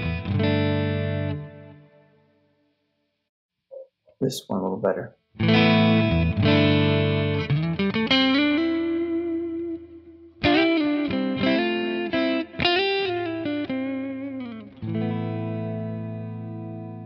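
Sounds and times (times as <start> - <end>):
clean electric guitar: 0.0 - 2.3, 5.4 - 17.0.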